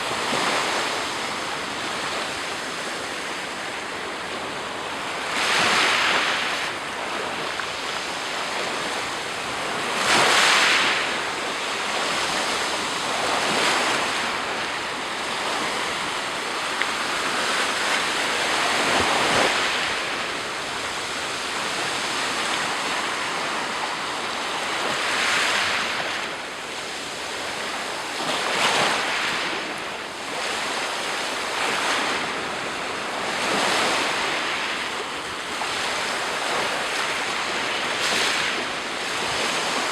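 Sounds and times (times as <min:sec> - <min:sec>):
steady wash of water: 0:00.0 - 0:39.9
waves breaking on shore: 0:00.0 - 0:39.9.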